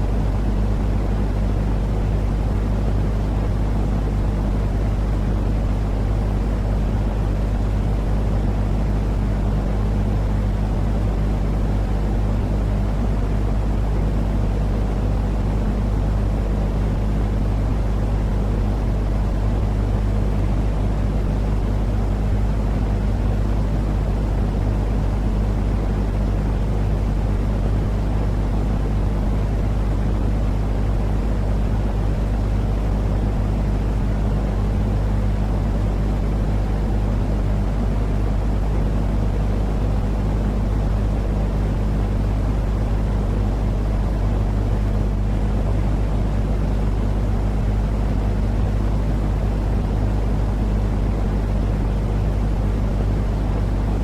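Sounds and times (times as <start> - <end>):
constant low hum: 0.0 - 54.0
low rumbling hiss: 0.0 - 54.0.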